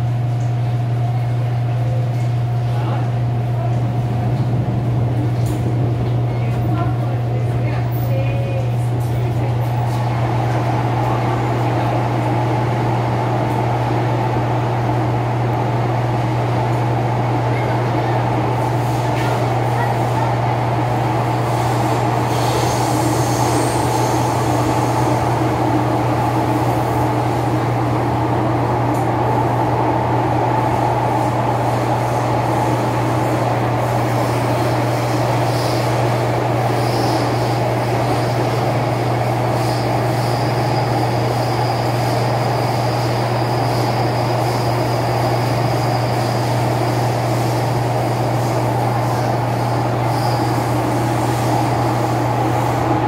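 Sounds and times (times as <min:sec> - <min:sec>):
train running gear rumble: 0:00.0 - 0:53.0.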